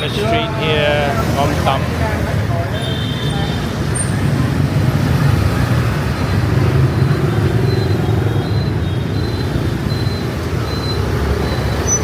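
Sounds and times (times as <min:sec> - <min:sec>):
motorbikes passing: 0:00.0 - 0:12.0.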